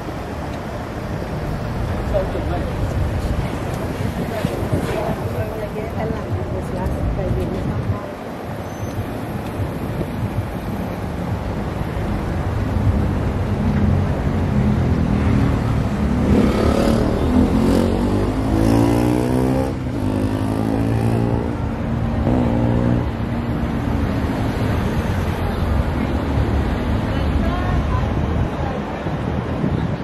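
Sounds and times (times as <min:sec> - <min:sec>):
low traffic rumble: 0:00.0 - 0:30.0.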